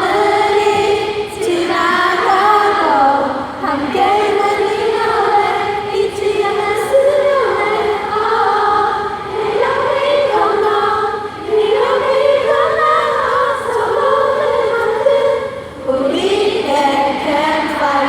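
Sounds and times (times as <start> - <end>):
crowd singing in unison: 0.0 - 18.0.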